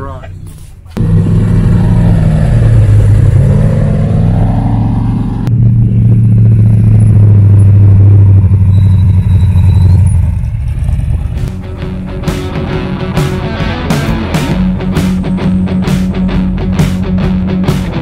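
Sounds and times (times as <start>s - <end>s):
deep engine drone: 0.0s - 18.0s
race car engine running loud: 1.0s - 18.0s.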